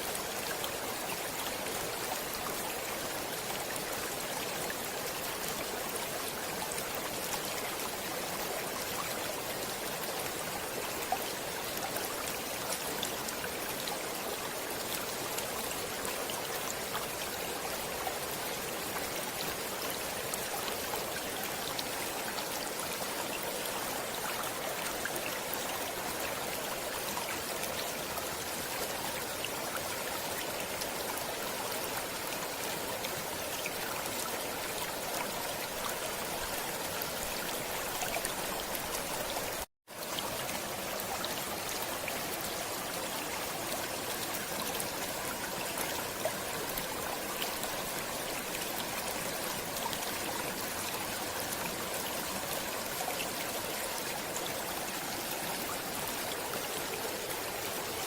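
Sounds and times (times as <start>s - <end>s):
stream of water flowing: 0.0s - 58.0s.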